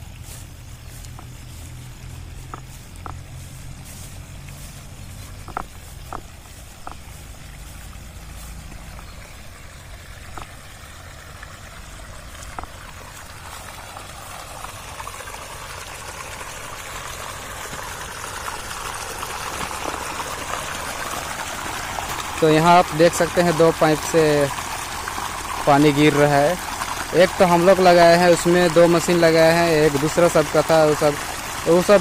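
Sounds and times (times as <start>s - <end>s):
water gushing from pipes: 0.0s - 32.0s.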